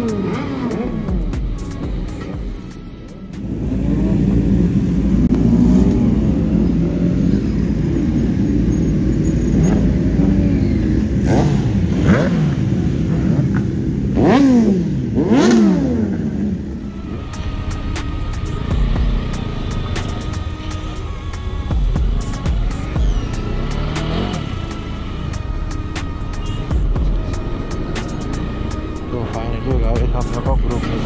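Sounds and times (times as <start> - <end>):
motorcycles revving: 0.0 - 31.0.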